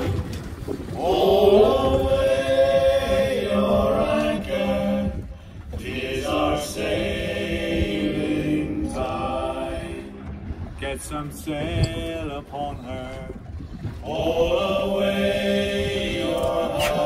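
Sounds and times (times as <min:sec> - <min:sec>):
wind rumble on microphone: 0:00.0 - 0:17.0
voices singing slow song: 0:00.9 - 0:17.0.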